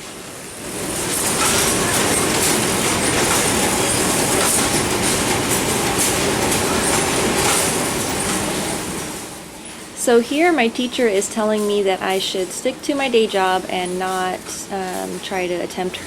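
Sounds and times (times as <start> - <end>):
machine rattling: 0.1 - 16.0.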